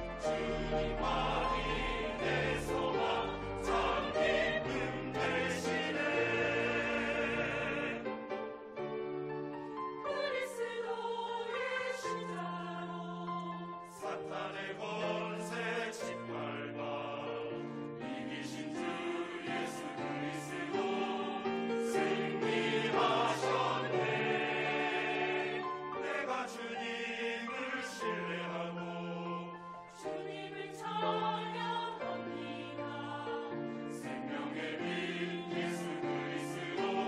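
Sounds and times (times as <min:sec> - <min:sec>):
mixed choir singing a hymn: 0:00.0 - 0:08.6, 0:09.8 - 0:37.0
grand piano accompaniment: 0:00.0 - 0:37.0.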